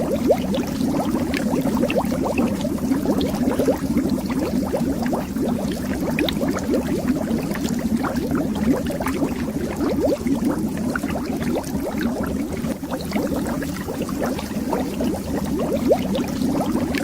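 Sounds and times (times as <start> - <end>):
bubbles under water: 0.0 - 17.0.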